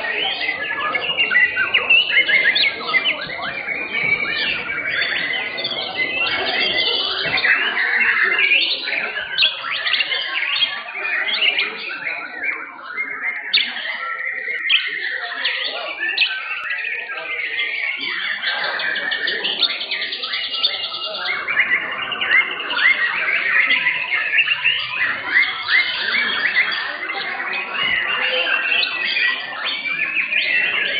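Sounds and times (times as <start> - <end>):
birds singing whistles and chirps: 0.0 - 30.9.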